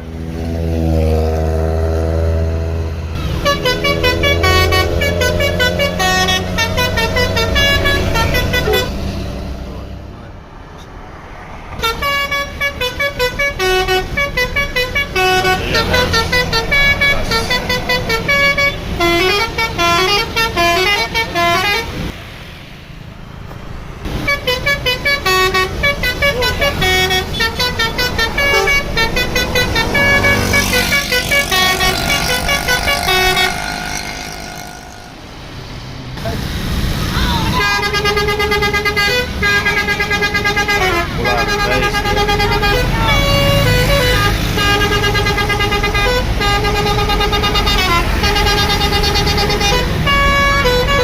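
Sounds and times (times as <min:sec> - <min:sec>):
multi-tone bus horn playing a tune: 0:00.6 - 0:09.4, 0:11.8 - 0:22.1, 0:24.1 - 0:35.3, 0:37.4 - 0:51.0.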